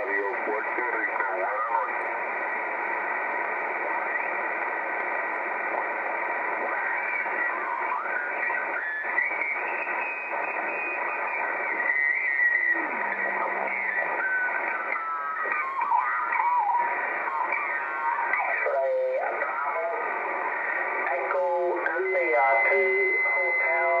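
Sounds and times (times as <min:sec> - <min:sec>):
radio static hiss: 0:00.0 - 0:24.0
radio whistles and garbled signals: 0:00.0 - 0:24.0.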